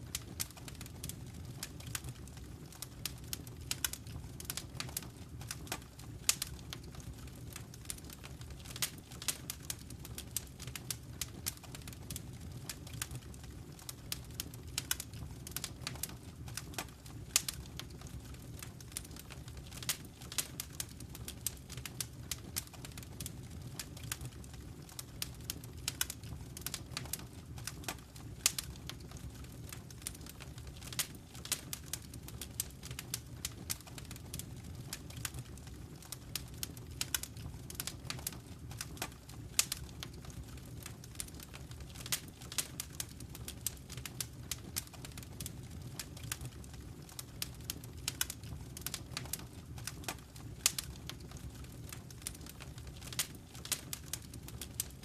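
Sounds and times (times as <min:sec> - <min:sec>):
fire crackling and popping: 0:00.0 - 0:55.0
wood fire low rumble: 0:00.0 - 0:55.0.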